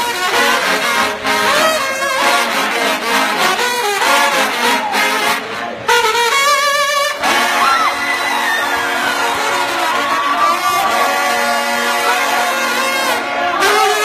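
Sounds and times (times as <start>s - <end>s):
trombone playing: 0.0s - 14.0s.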